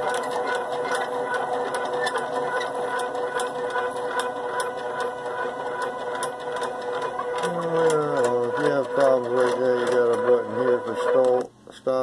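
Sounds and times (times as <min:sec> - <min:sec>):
stepper motors whining: 0:00.0 - 0:11.5.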